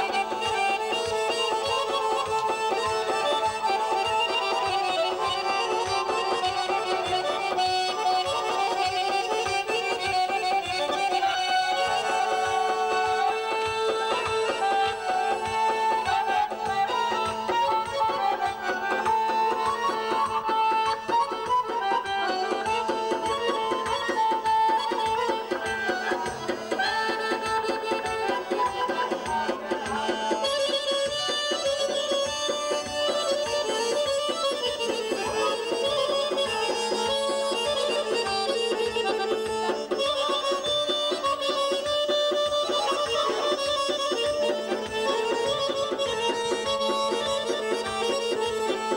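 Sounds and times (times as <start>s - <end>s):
button accordion folk melody: 0.0s - 48.9s
hand drum beat: 0.0s - 48.9s.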